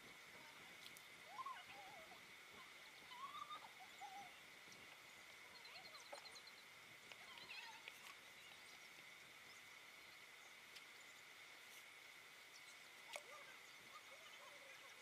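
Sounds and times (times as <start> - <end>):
birdsong chirps and whistles: 1.2 - 15.0.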